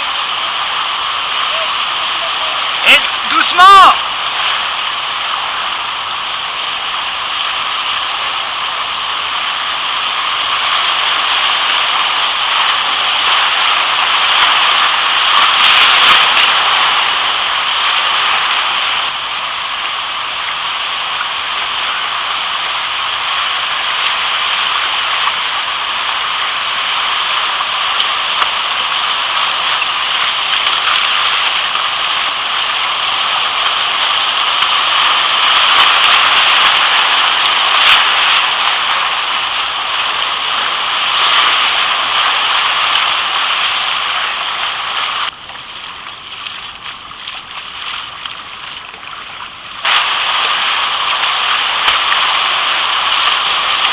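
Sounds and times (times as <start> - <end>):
river whitewater rushing: 0.0 - 45.9, 48.1 - 53.9.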